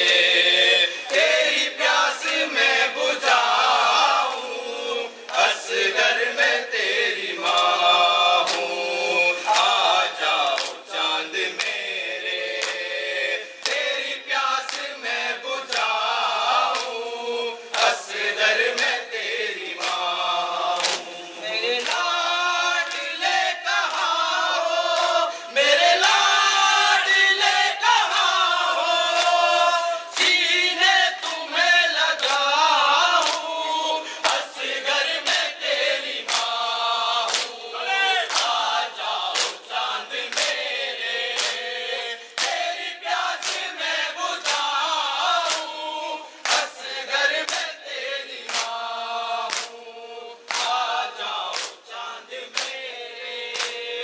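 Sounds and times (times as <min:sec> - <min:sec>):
men chanting a lament: 0:00.0 - 0:54.0.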